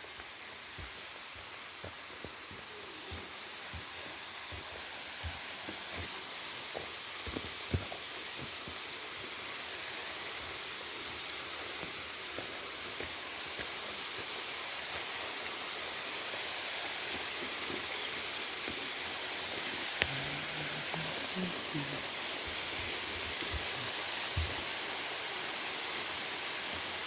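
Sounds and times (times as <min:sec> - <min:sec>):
waterfall rushing water: 0:00.0 - 0:27.0.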